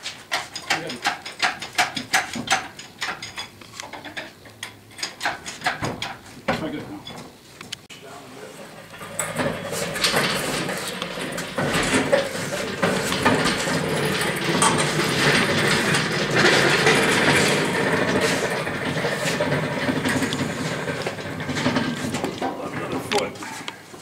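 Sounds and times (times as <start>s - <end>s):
knocks and rattles: 0.0s - 7.3s, 8.7s - 23.7s
casters rolling on concrete: 0.0s - 7.4s, 8.3s - 24.0s.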